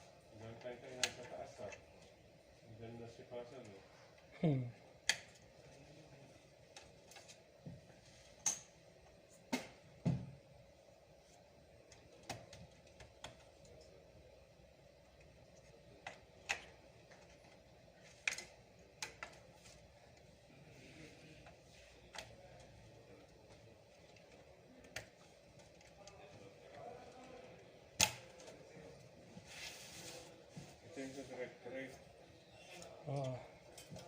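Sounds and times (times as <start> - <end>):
faint room noise: 0.0 - 34.0.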